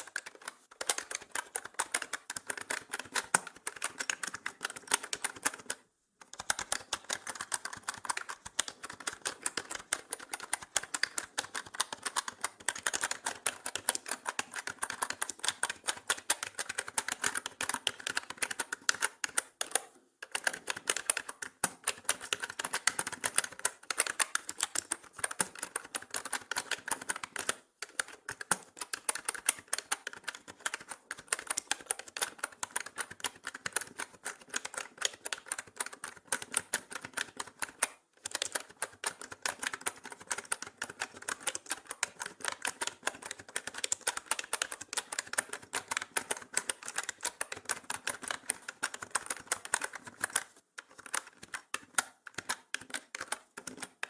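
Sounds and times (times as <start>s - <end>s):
typing on mechanical keyboard: 0.0s - 54.0s.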